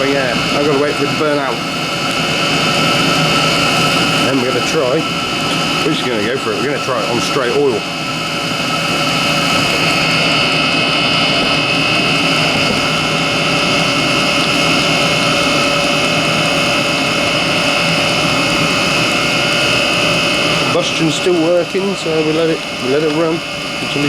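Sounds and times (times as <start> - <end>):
heater blower rushing: 0.0 - 24.0
steady whine: 0.0 - 24.0.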